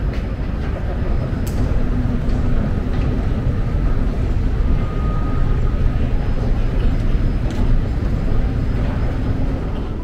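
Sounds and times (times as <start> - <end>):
airport hall rumble: 0.0 - 10.0.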